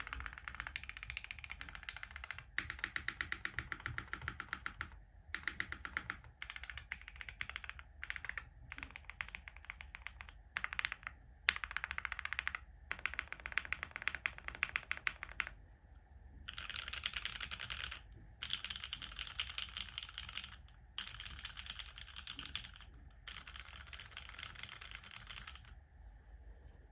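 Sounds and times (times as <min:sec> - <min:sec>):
mechanical keyboard typing: 0:00.0 - 0:15.6, 0:16.5 - 0:25.8.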